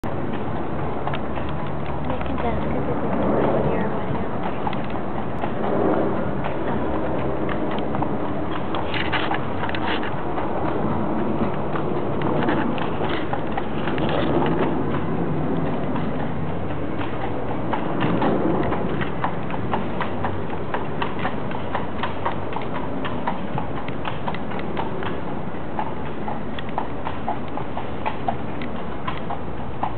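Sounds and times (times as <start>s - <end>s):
horse hooves clip-clopping on pavement: 0.0s - 29.9s
steady low rumble: 0.0s - 29.9s.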